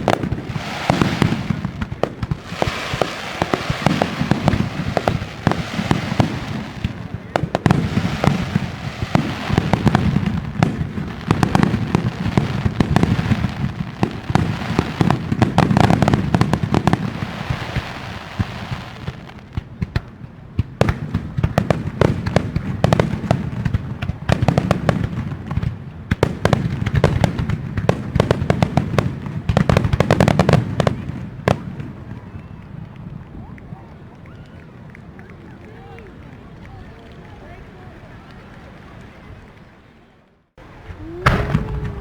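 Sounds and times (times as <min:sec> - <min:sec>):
fireworks bursting: 0:00.0 - 0:32.6, 0:40.6 - 0:42.0
fireworks crackling: 0:00.0 - 0:34.5, 0:40.6 - 0:42.0.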